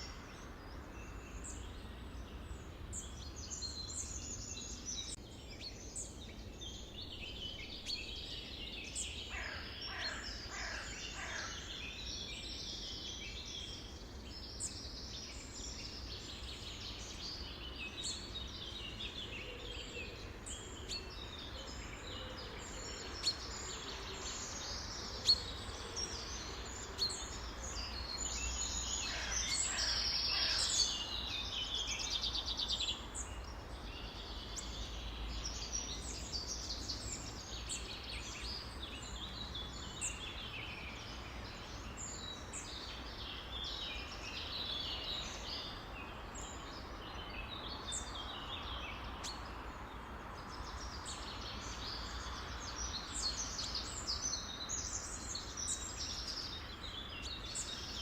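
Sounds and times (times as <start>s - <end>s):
songbirds chorus: 0.0s - 58.0s.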